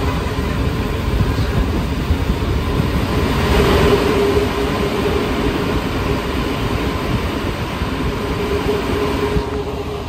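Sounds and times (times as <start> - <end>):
metro train rolling rumble: 0.0 - 10.0.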